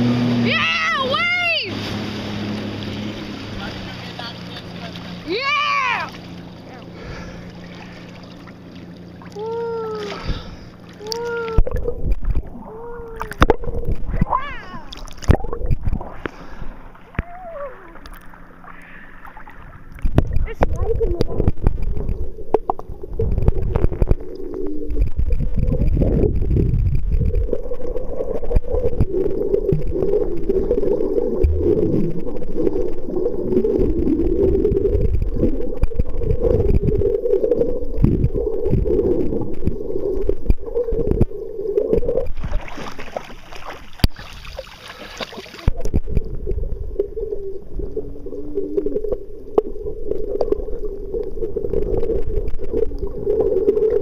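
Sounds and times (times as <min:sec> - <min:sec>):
underwater rumble of moving water: 0:00.0 - 0:54.0
bubbles: 0:05.2 - 0:54.0.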